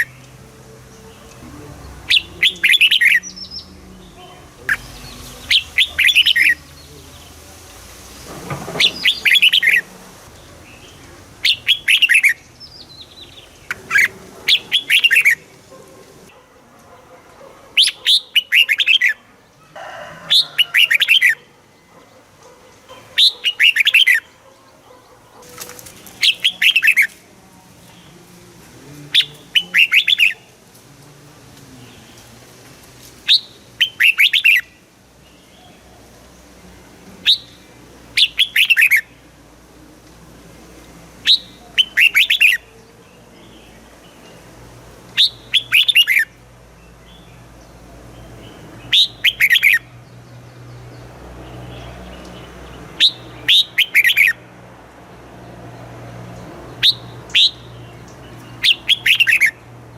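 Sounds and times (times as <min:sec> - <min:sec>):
bulbul singing: 0:00.0 - 0:16.4, 0:17.8 - 0:19.3, 0:22.9 - 0:30.8, 0:33.2 - 0:54.5, 0:56.4 - 0:59.9.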